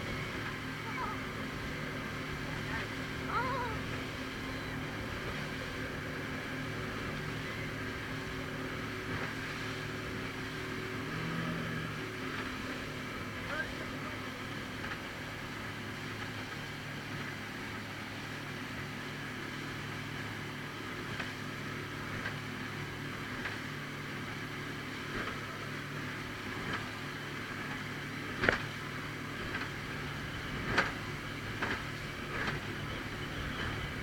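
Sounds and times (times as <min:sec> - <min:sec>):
motorboat engine droning: 0:00.0 - 0:34.0.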